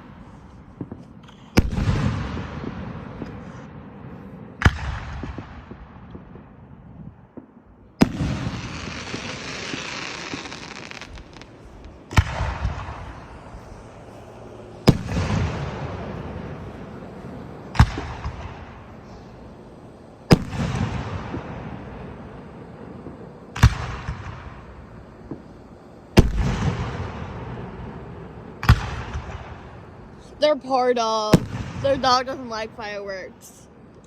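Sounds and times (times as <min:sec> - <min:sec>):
firework bangs with echo: 0:00.2 - 0:19.6, 0:20.3 - 0:29.9, 0:31.3 - 0:32.5.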